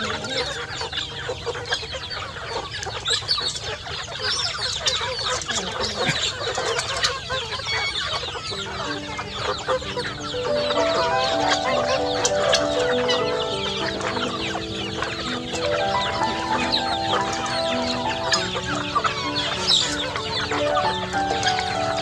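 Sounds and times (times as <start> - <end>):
background music with held notes: 0.0 - 2.3, 4.8 - 22.0
chickens clucking and chirping: 0.0 - 22.0.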